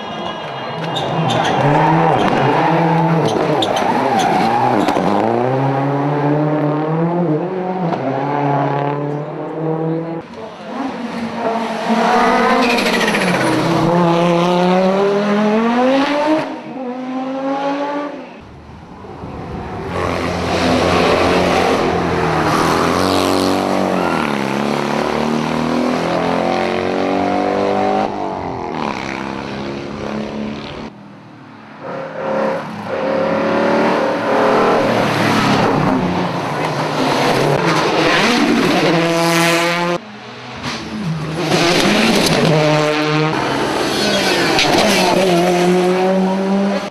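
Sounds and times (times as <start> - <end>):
rally cars revving past: 1.5 - 18.2, 19.7 - 30.9, 31.7 - 46.9.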